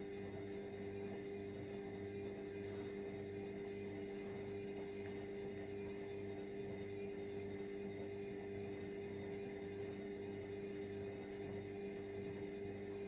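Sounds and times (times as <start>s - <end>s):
washing machine humming and throbbing: 0.0s - 13.0s.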